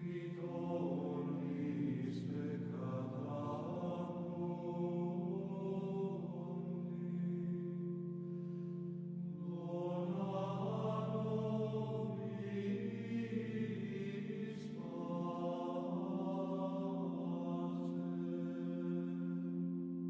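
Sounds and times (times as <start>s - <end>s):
slow drone-like chords: 0.0s - 20.0s.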